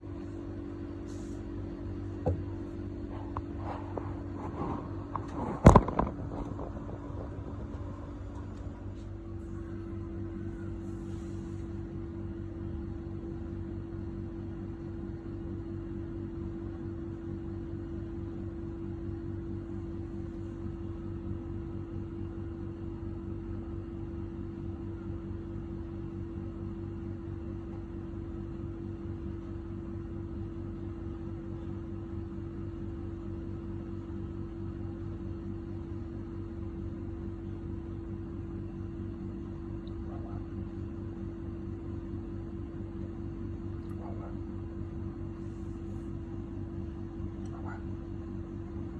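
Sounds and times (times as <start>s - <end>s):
steady machine hum: 0.0s - 48.9s.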